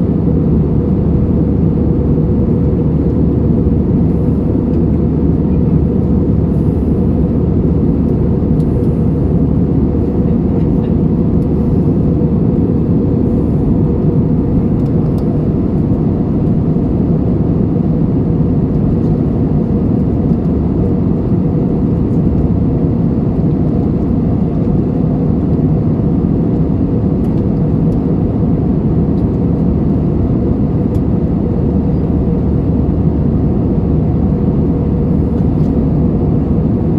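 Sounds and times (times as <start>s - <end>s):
jet engines roaring in cabin: 0.0s - 36.9s.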